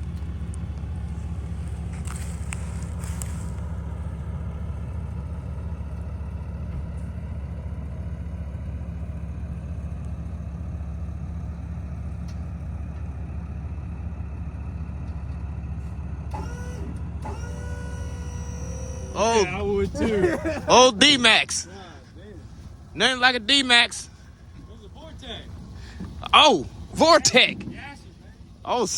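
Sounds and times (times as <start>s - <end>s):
truck engine running: 0.0s - 28.9s.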